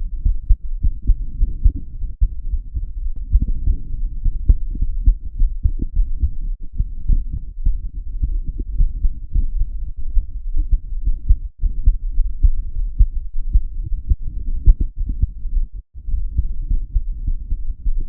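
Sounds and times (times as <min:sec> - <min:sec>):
muffled heartbeat thumps: 0:00.0 - 0:18.0.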